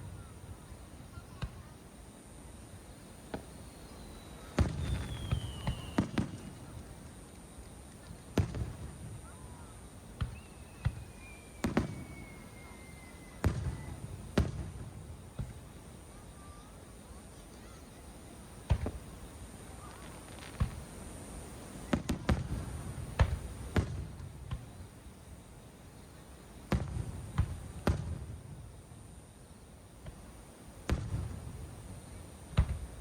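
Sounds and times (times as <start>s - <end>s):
fireworks bursting with bangs: 0.0s - 2.0s, 2.6s - 33.0s.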